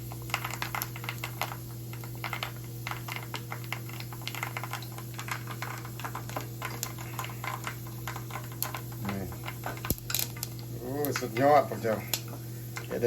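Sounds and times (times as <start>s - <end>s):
meat sizzling in hot oil: 0.0s - 13.0s
steady low hum: 0.0s - 13.0s.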